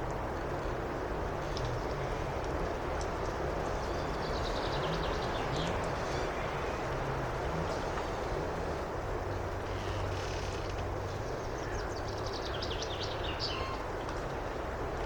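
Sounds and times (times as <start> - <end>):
low steady drone: 0.0 - 15.0
wind through forest: 0.0 - 15.0
songbird singing: 1.4 - 14.5.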